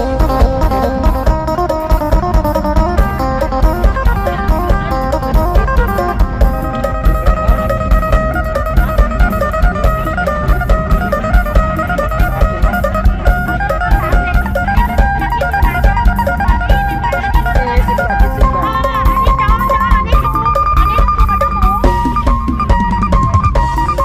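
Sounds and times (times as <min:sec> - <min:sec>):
plucked guitar melody: 0:00.0 - 0:24.0
steady drum beat: 0:00.0 - 0:24.0.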